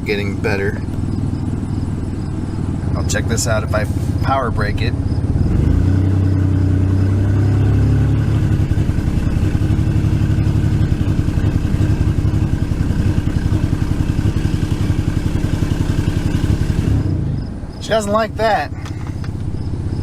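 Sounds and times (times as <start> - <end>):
engine running under load: 0.0 - 20.0.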